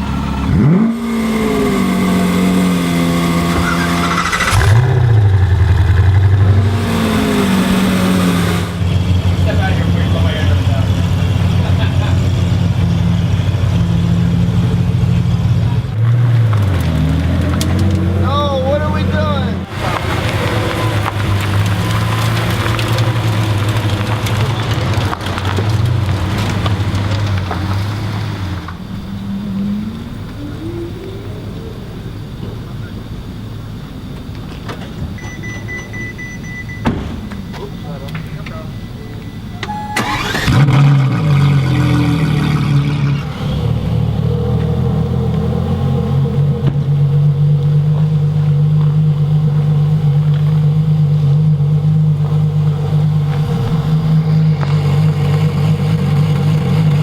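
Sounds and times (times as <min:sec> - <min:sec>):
dense crackling: 0:00.0 - 0:34.9, 0:36.9 - 0:57.0
car engine revving: 0:00.0 - 0:35.0, 0:37.1 - 0:57.0
deeper car engine droning: 0:00.0 - 0:57.0.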